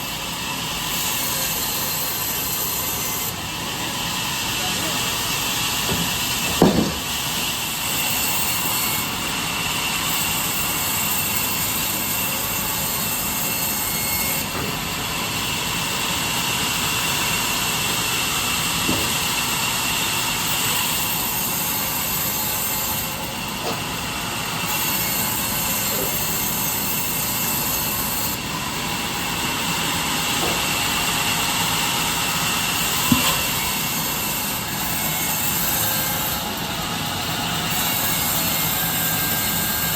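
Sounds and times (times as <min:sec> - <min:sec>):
power saw cutting wood: 0:00.0 - 0:39.9.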